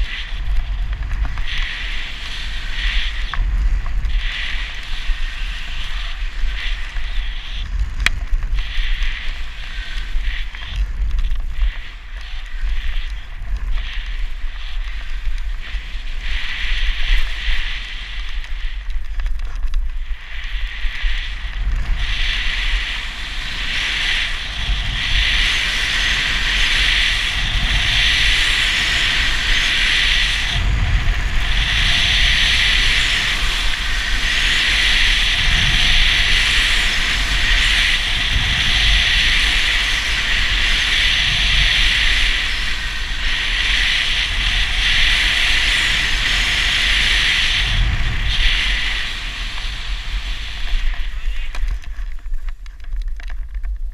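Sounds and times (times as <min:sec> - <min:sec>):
low wind rumble on microphone: 0:00.0 - 0:53.9
snowboard sliding over snow: 0:00.0 - 0:53.9.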